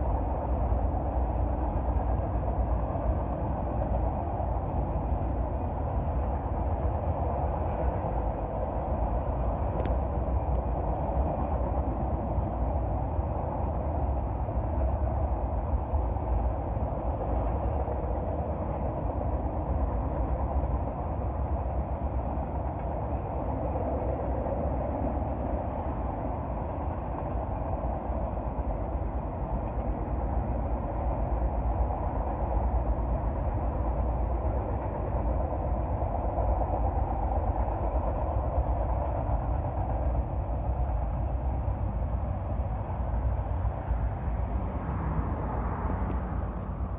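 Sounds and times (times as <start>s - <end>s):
distant freight train rumble: 0.0s - 46.9s.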